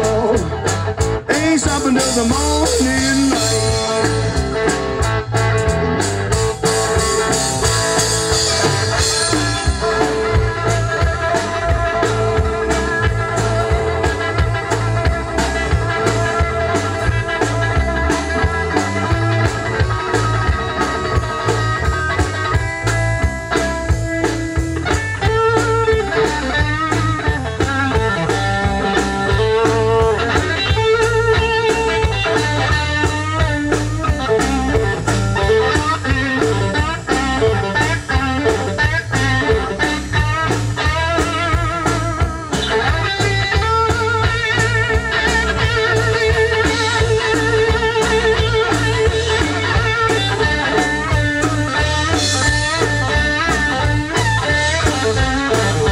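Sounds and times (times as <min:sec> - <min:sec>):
bass: 0:00.0 - 0:55.9
blues guitar lead: 0:00.0 - 0:55.9
drums: 0:00.0 - 0:55.9.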